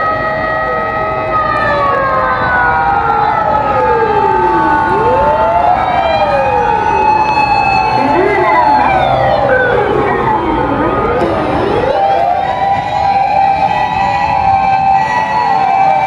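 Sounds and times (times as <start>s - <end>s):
steady siren tone: 0.0s - 16.0s
wailing sirens: 0.0s - 16.0s.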